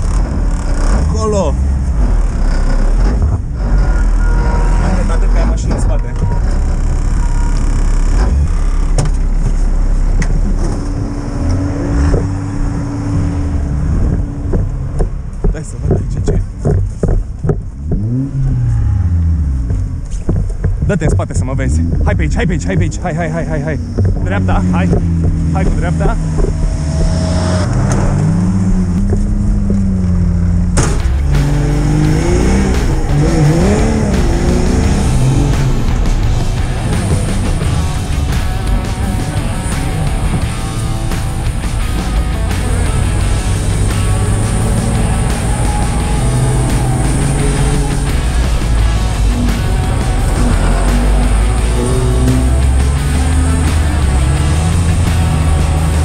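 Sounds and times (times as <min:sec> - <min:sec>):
car engine rumbling in cabin: 0:00.0 - 0:56.0.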